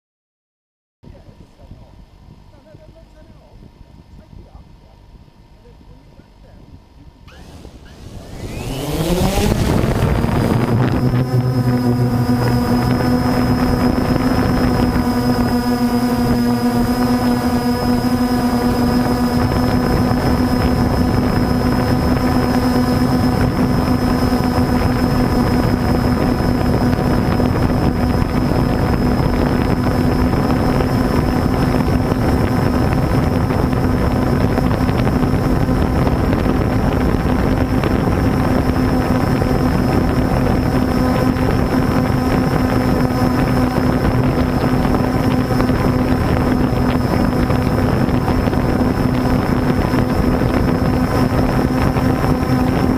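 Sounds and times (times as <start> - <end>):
wind on microphone: 1.0 - 52.9
drone motors buzzing: 7.2 - 52.9.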